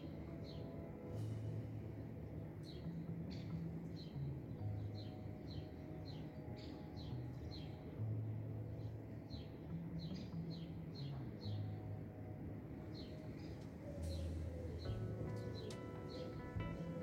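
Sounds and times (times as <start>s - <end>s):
birds chirping: 0.0s - 17.0s
soft music with held low notes: 0.0s - 17.0s.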